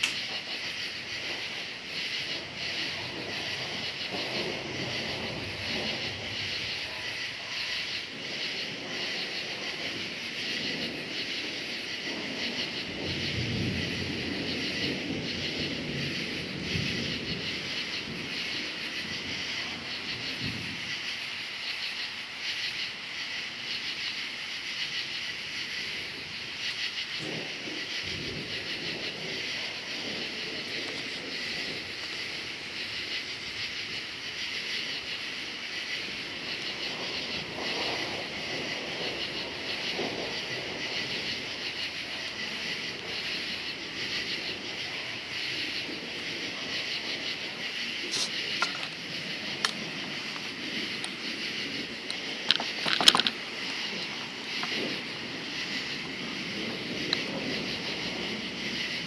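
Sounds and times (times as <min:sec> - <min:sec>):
thunder rumbling: 0:00.0 - 0:21.5, 0:25.2 - 0:59.0
crickets chirping: 0:00.0 - 0:59.0.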